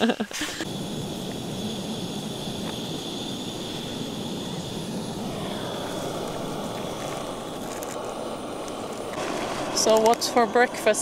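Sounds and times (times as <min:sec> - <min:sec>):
gas stove burner hissing: 0:00.0 - 0:11.0.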